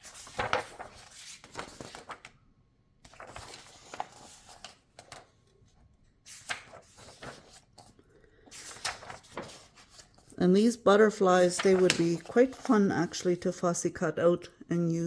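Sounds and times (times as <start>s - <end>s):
paper rustling: 0.0s - 2.4s, 3.0s - 13.4s.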